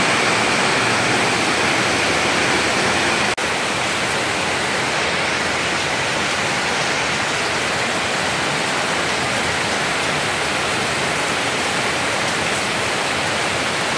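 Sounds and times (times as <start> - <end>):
heavy rain and rushing water: 0.0 - 13.9.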